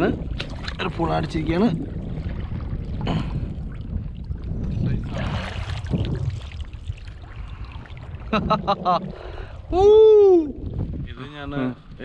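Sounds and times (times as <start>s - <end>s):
seawater sloshing and splashing: 0.0s - 9.8s
low rumble on microphone: 0.0s - 12.0s.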